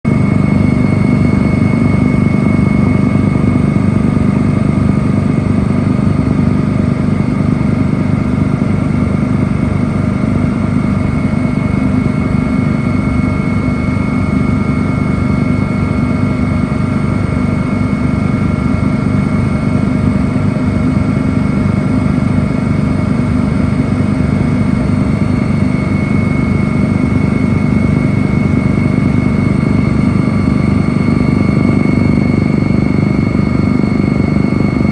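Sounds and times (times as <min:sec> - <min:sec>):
helicopter engine and rotor drone: 0:00.0 - 0:34.9
constant high whine: 0:00.1 - 0:34.9.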